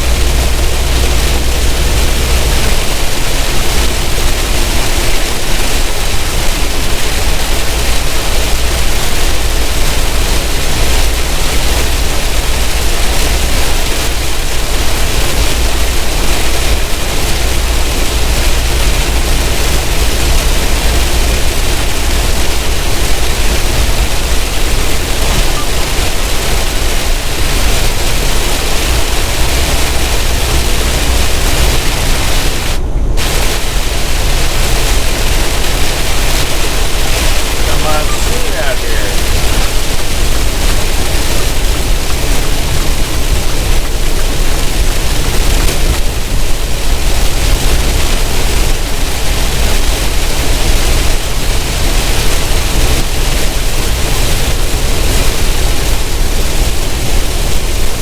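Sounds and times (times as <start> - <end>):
truck low rumble: 0.0 - 58.0
tyres hissing on wet road: 0.0 - 58.0.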